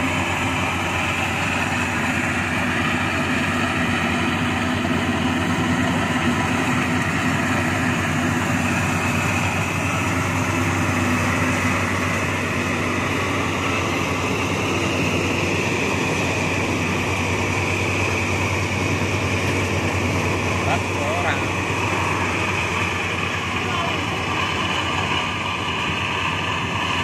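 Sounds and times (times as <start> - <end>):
combine harvester engine drone: 0.0 - 27.0
cutting and threshing machinery: 0.0 - 27.0.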